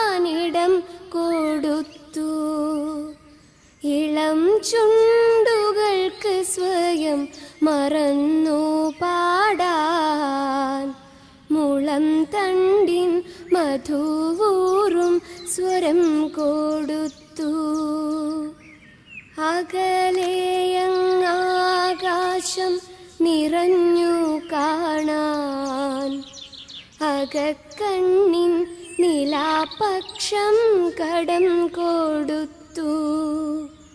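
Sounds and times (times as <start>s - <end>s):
woman singing slow song: 0.0s - 33.9s.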